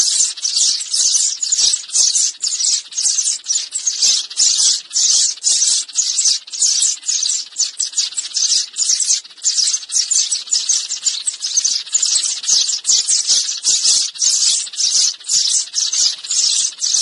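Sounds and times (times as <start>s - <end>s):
sparrows chirping: 0.0s - 17.0s.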